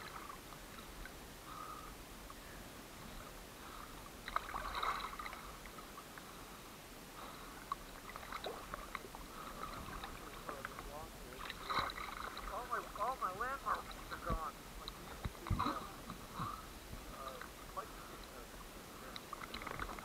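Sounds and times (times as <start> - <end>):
lake waves lapping and splashing: 0.0 - 20.0.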